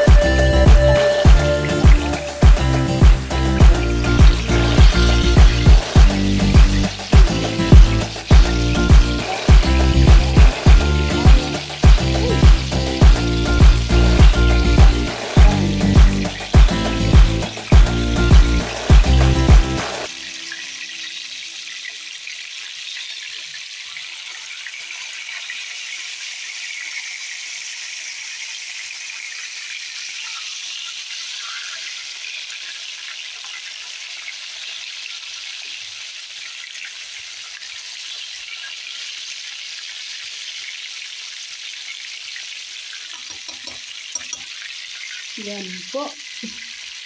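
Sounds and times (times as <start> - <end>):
hot oil sizzling: 0.0 - 47.0.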